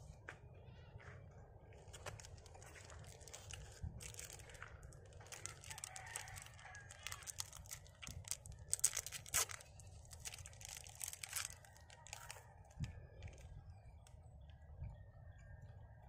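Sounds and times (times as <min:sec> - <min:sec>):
crinkling and crackling: 0:01.7 - 0:14.6.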